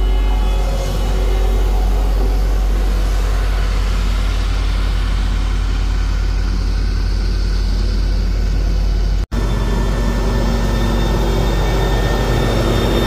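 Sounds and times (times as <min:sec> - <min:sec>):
road roller diesel engine running: 0:00.0 - 0:13.0.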